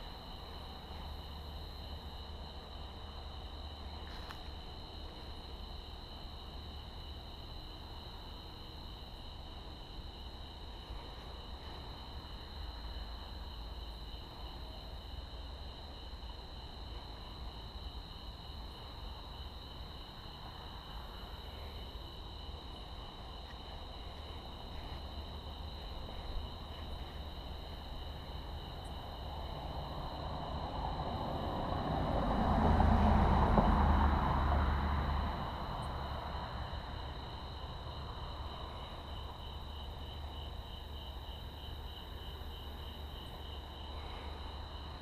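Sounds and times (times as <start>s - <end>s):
crickets trilling: 0.0s - 45.0s
low steady rumble: 0.0s - 45.0s.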